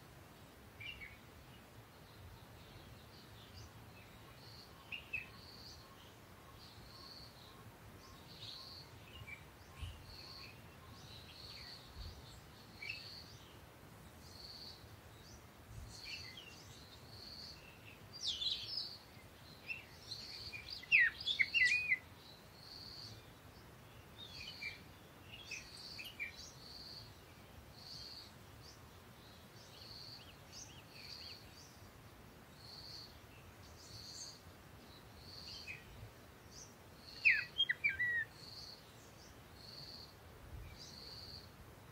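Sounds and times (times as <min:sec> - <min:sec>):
birds chirping: 0:00.4 - 0:41.6.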